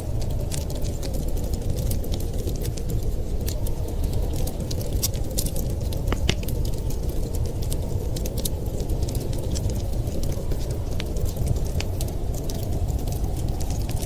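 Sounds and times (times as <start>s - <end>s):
low rumble of wind: 0.0s - 14.0s
wood fire crackling: 0.0s - 14.0s.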